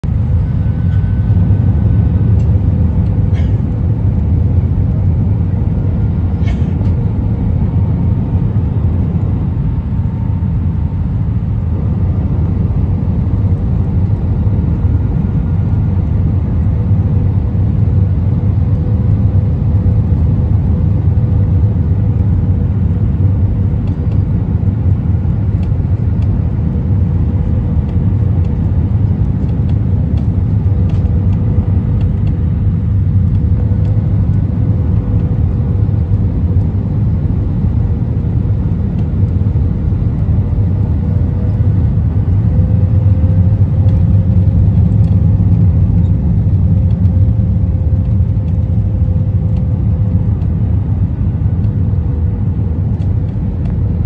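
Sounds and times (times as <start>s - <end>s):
airliner engine and airflow rumble: 0.0s - 54.0s.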